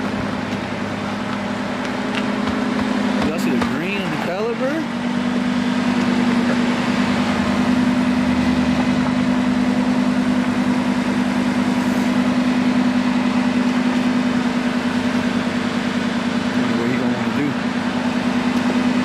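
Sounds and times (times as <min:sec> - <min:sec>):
sports car engine idling: 0:00.0 - 0:19.0.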